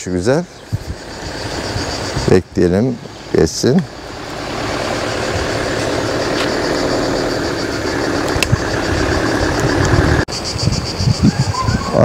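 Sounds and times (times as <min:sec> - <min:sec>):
car engine idling: 0:00.0 - 0:10.3
insects chirping: 0:00.0 - 0:12.0.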